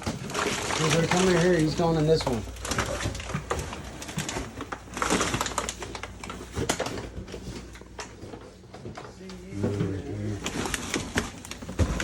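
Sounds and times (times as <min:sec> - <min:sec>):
garbage rustling and crunching: 0:00.0 - 0:12.0.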